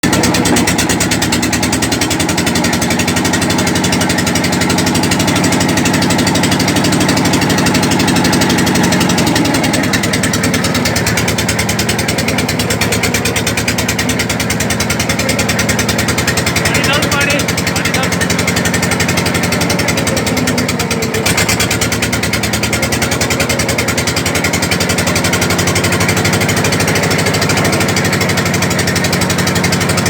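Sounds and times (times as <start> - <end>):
engine-driven machine pulsing: 0.0 - 30.0.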